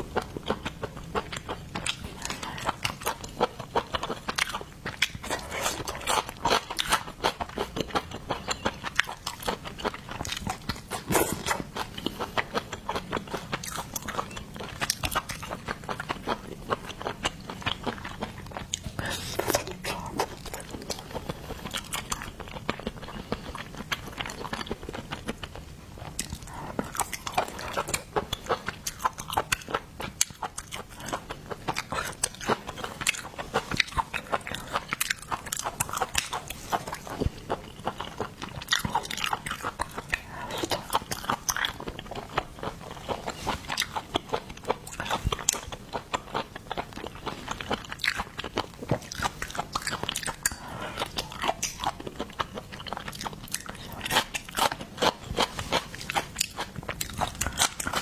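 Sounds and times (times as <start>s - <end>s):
crunching and wet chewing: 0.0s - 58.0s.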